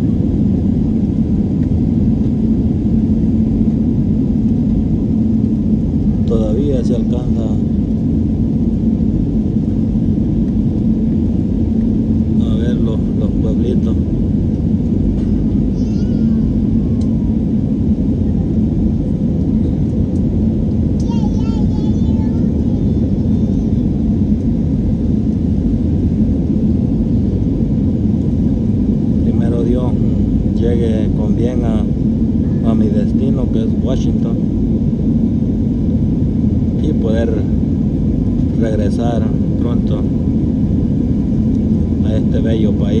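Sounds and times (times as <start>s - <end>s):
jet engines rumbling in cabin: 0.0s - 43.0s
steady low hum: 0.0s - 43.0s.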